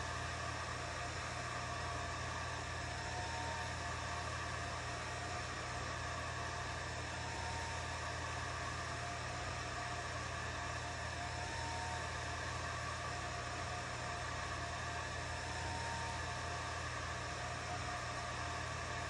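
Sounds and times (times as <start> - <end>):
laser engraver humming: 0.0 - 19.0.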